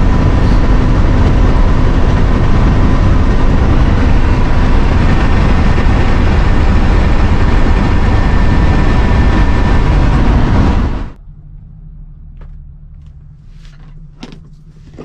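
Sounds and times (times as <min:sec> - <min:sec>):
engine running: 0:00.0 - 0:15.0
road and wind noise: 0:00.0 - 0:15.0.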